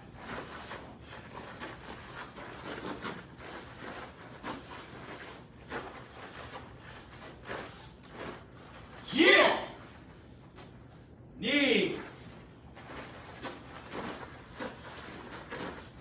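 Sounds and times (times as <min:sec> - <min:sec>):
bare feet on foam mats: 0:00.0 - 0:16.0.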